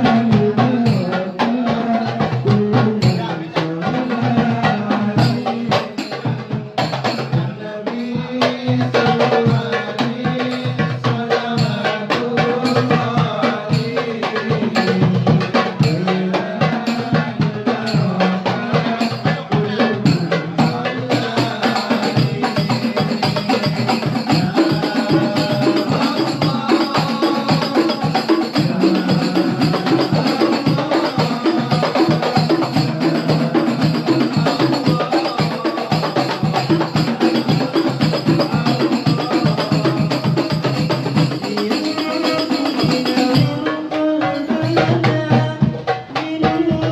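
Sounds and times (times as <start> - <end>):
goblet drums in fast rhythm: 0.0 - 46.9.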